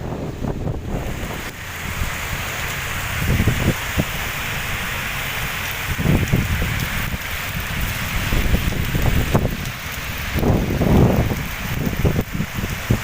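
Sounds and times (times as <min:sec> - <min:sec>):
wind buffeting microphone: 0:00.0 - 0:04.9, 0:05.5 - 0:13.0
heavy rain pouring: 0:00.0 - 0:13.0.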